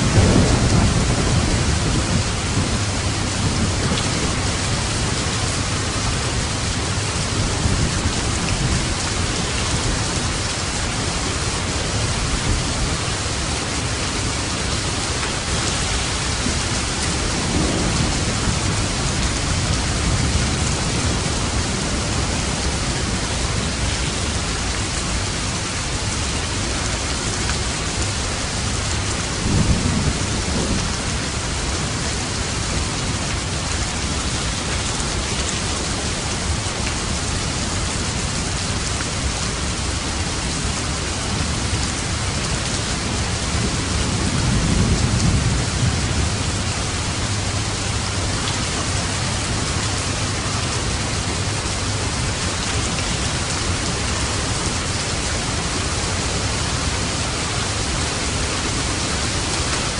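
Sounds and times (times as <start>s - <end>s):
thunder rumbling: 0.0s - 26.6s, 27.9s - 36.6s, 38.1s - 59.6s
heavy rain: 0.0s - 59.9s.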